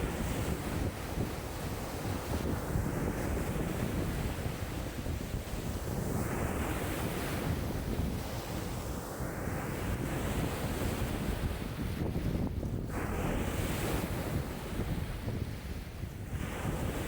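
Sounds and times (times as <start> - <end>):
lake waves breaking ashore: 0.0 - 17.0
wind buffeting microphone: 0.0 - 17.0.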